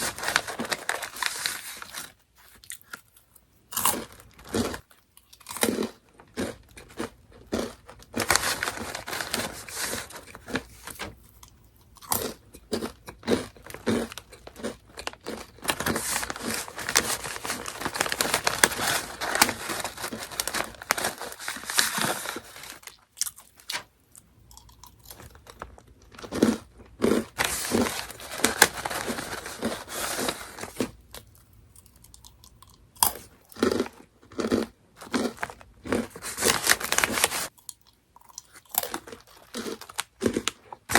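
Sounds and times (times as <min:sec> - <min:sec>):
crunching snack crackers: 0:00.0 - 0:40.9.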